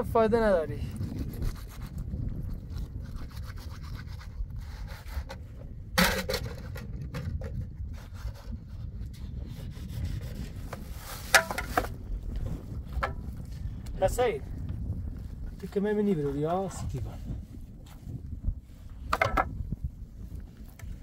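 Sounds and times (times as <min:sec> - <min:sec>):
low wind rumble on microphone: 0:00.0 - 0:21.0.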